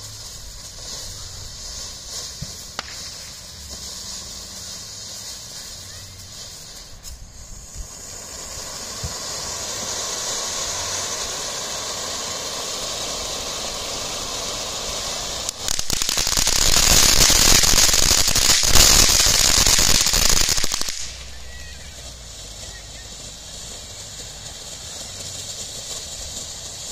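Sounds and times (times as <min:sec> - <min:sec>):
firework fountain sparks hissing: 0:00.0 - 0:26.9
sparks crackling and popping: 0:00.0 - 0:26.9.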